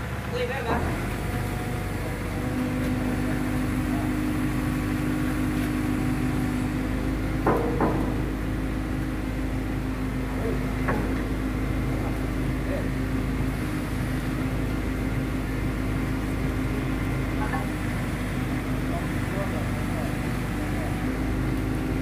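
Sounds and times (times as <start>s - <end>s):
mini excavator running: 0.0s - 22.0s.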